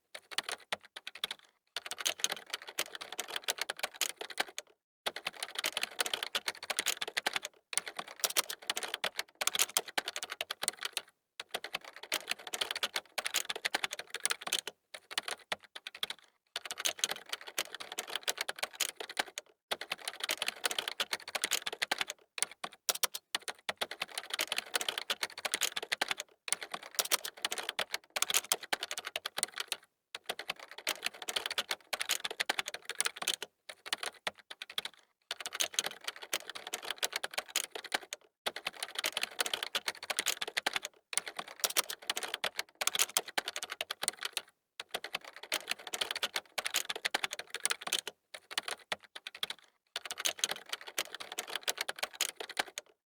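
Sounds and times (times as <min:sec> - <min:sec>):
fast typing on a keyboard: 0:00.2 - 0:53.0.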